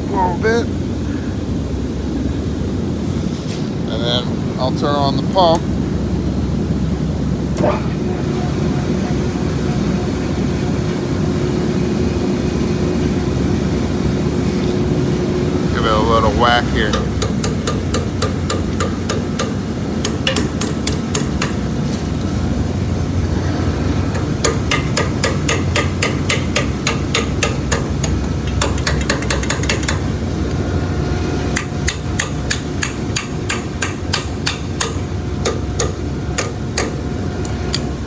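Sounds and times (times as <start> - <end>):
pump humming: 7.3 - 38.0.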